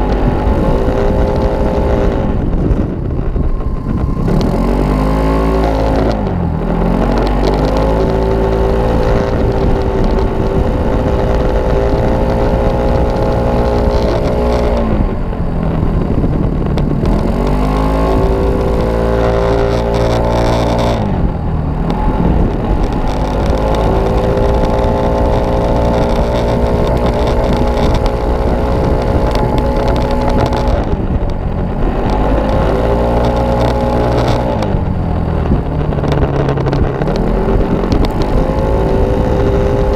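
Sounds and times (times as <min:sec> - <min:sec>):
scooter engine running at high speed: 0:00.0 - 0:39.9.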